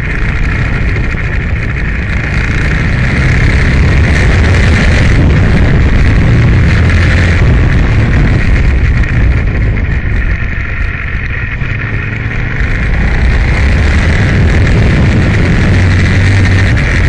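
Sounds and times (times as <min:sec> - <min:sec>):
heavy wind noise: 0:00.0 - 0:17.0
motorcycle engine running hard: 0:00.0 - 0:17.0.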